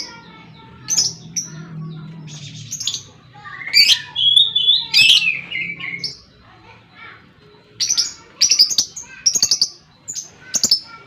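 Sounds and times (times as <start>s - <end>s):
lovebird chirping: 0.0s - 11.0s.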